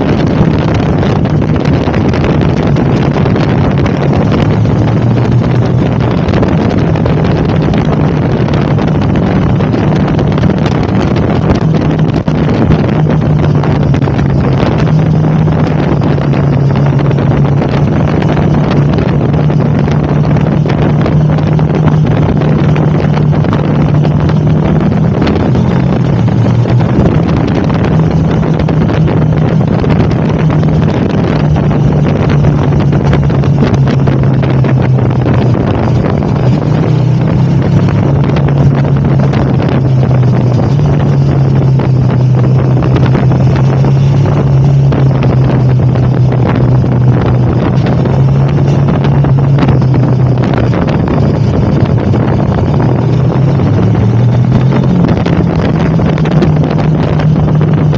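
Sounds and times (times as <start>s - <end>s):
motorcycle engine cruising: 0.0s - 57.9s
wind noise on microphone: 0.0s - 57.9s.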